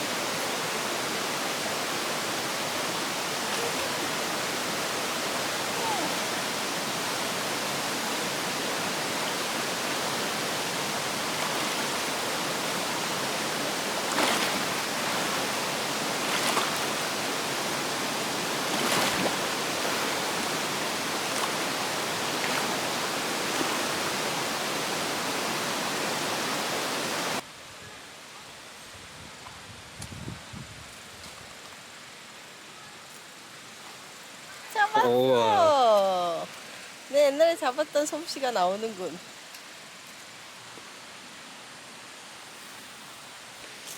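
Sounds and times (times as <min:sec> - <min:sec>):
stream rushing over rocks: 0:00.0 - 0:27.5, 0:31.7 - 0:43.9.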